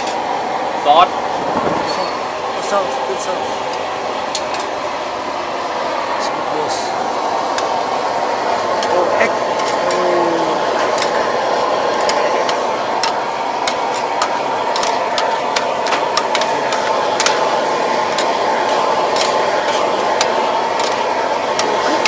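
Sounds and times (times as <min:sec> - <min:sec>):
frying hiss: 0:00.0 - 0:22.0.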